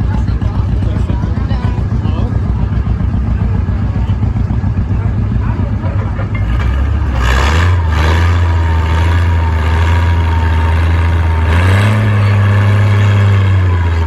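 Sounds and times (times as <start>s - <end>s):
tractor engine droning under load: 0.0s - 14.0s.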